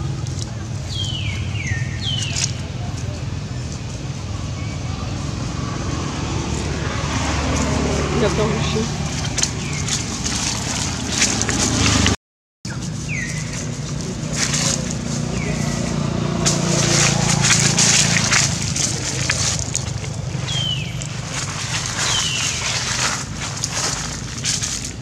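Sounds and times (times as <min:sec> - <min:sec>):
dry leaves crackling and rustling: 0:00.0 - 0:25.0.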